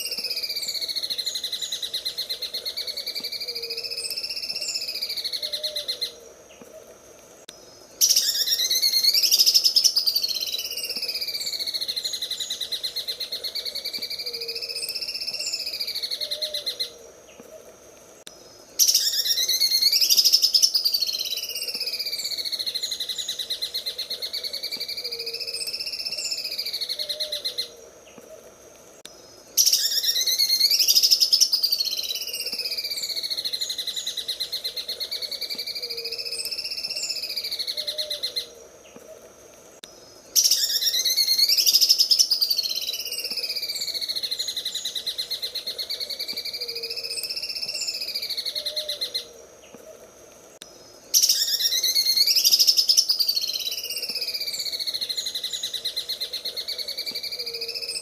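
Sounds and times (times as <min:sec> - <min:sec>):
bird trilling song: 0:00.0 - 0:06.7, 0:08.0 - 0:17.0, 0:18.8 - 0:27.8, 0:29.6 - 0:39.0, 0:40.4 - 0:49.3, 0:51.2 - 0:58.0.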